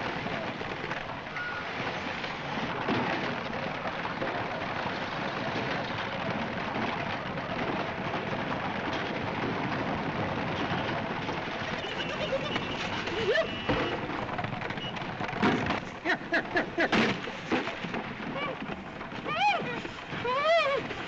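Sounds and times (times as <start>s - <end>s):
wooden barrels rolling on pavement: 0.0s - 21.0s.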